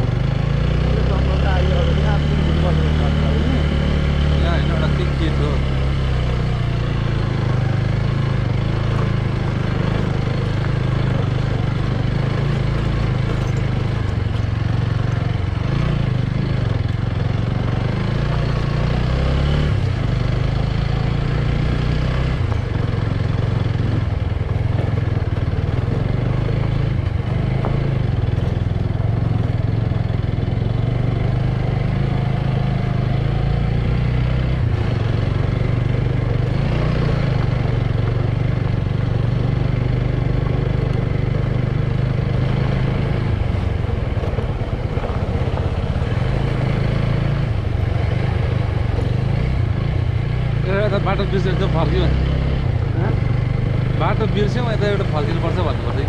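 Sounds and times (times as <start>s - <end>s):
motorbike engine running: 0.0s - 56.0s.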